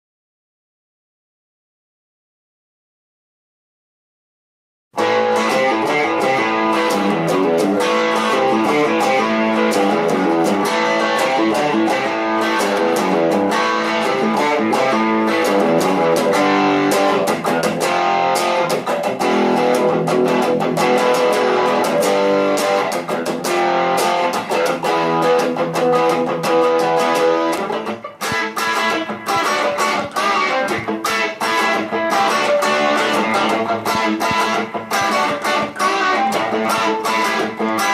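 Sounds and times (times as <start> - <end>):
electric guitar rock riff: 5.0 - 37.9.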